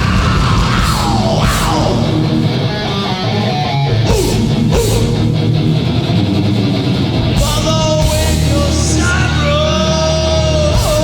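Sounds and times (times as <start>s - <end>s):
punk band playing loud: 0.0s - 11.0s.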